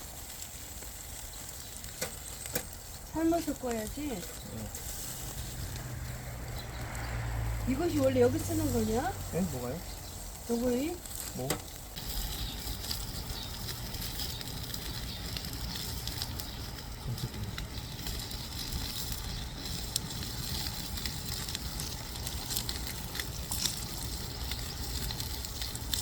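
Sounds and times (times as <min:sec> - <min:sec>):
bonfire crackling: 0:00.0 - 0:26.0
fire hissing: 0:00.0 - 0:26.0.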